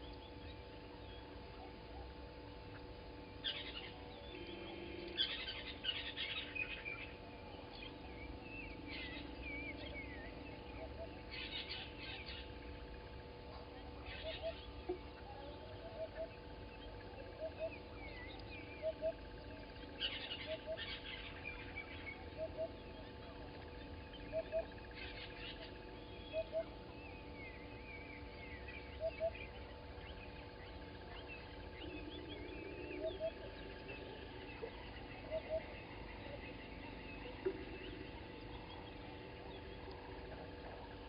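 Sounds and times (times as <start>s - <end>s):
high bird chirps and trills: 3.3s - 12.8s, 13.5s - 40.5s.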